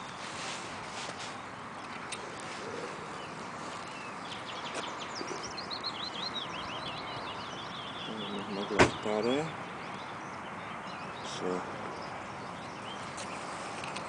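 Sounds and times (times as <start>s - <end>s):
steady outdoor hiss: 0.0s - 14.0s
songbird singing high chirps: 1.2s - 14.0s.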